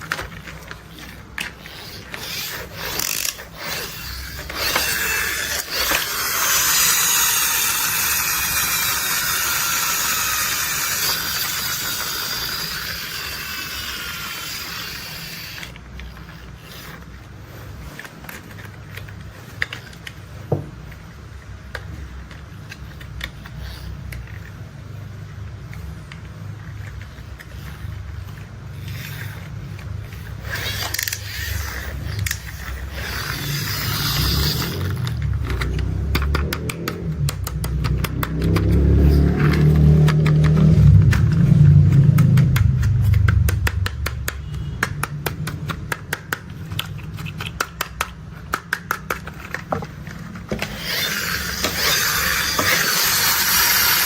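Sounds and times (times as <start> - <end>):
plastic toy mechanisms clicking: 0.0 - 54.0.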